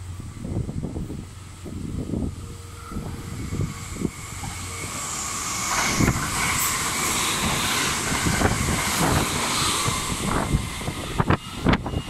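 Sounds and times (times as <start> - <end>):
train rushing past: 0.0 - 12.0.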